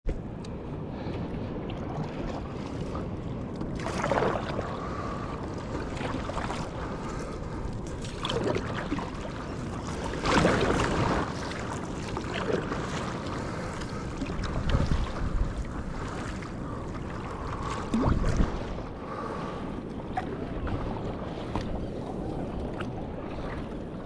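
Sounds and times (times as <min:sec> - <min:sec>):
water noise: 0:00.0 - 0:24.0
wind: 0:00.0 - 0:24.0
paddle splashing: 0:01.0 - 0:24.0.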